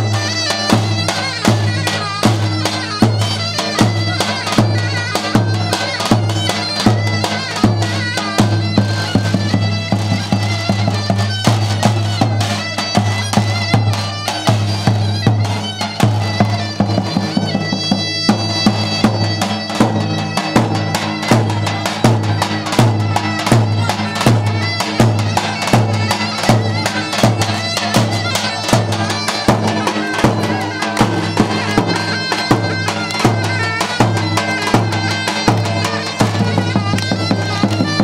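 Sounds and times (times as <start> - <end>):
shrill reed instrument melody: 0.0 - 38.0
steady drum beat: 0.0 - 38.0.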